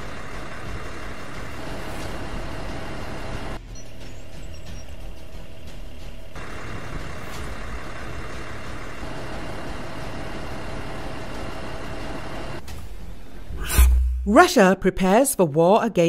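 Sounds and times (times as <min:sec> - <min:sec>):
vehicle engines idling: 0:00.0 - 0:13.6.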